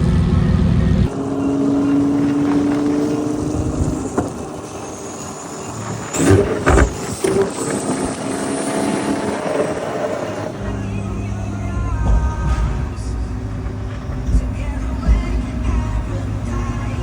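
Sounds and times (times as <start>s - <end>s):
sharp exhaust blasts: 0.0s - 17.0s
sports car engine running: 0.0s - 17.0s.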